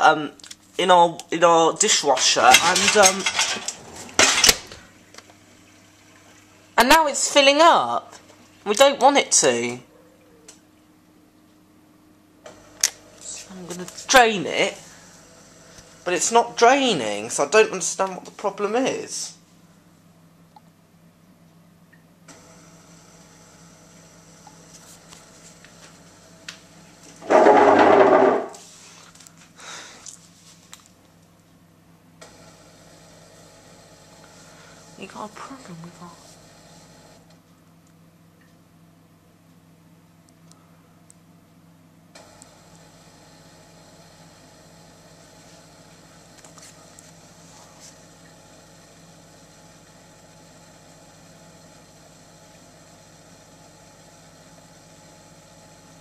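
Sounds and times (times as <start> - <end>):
dishwasher drain pump humming: 1.2 - 20.7, 21.5 - 29.0, 31.6 - 40.8, 41.9 - 56.0.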